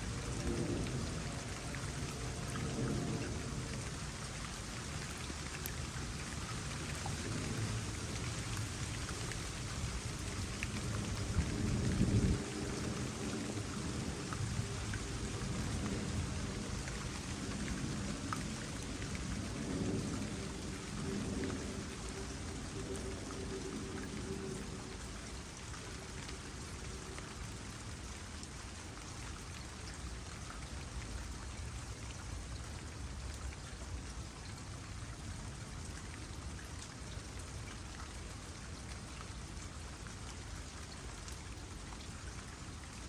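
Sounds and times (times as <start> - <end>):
rain falling on a pond: 0.0 - 43.0
trickling water: 0.0 - 43.0.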